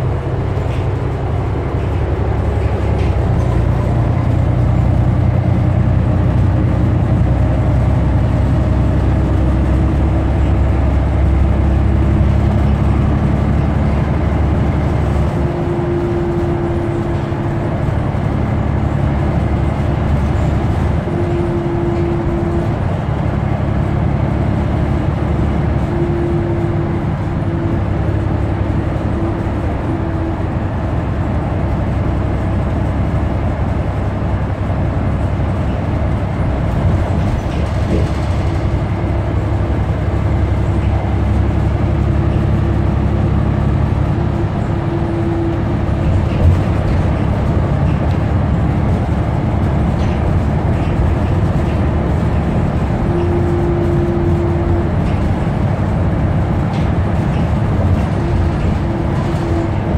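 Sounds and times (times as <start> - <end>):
diesel bus engine drone: 0.0 - 59.9.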